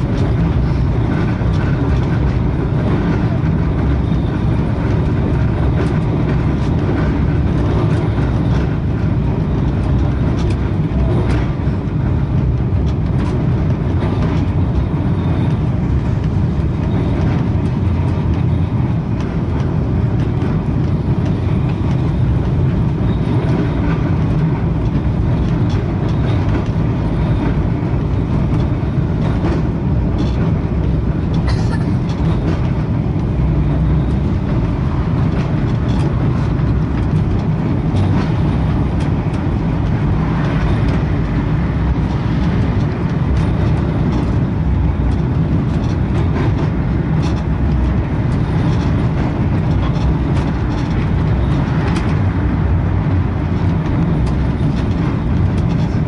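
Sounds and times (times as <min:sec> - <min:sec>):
moving tram rumble: 0:00.0 - 0:56.0.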